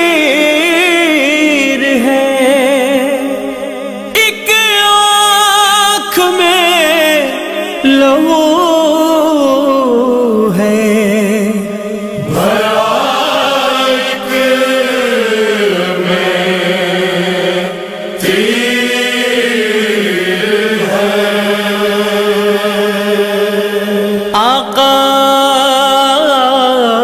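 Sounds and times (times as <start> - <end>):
man chanting a lament: 0.0 - 27.0.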